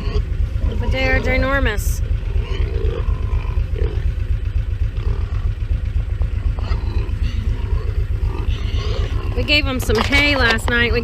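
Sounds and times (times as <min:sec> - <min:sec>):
pigs grunting: 0:00.0 - 0:10.6
heavy low rumble: 0:00.0 - 0:11.0.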